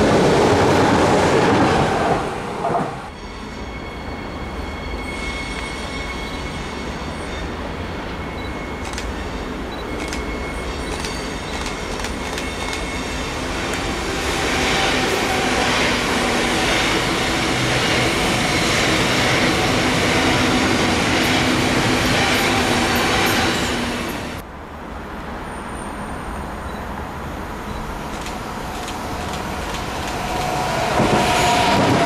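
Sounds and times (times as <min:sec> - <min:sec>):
train wheels on rails: 0:00.0 - 0:24.4, 0:27.6 - 0:32.0.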